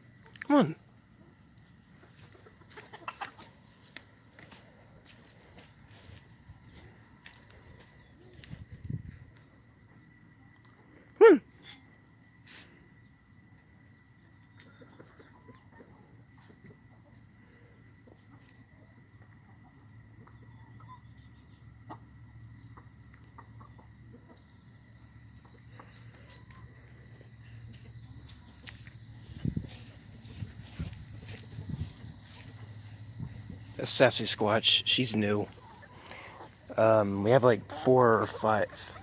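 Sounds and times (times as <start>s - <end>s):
chickens clucking faintly: 0.1s - 8.8s, 14.1s - 39.0s.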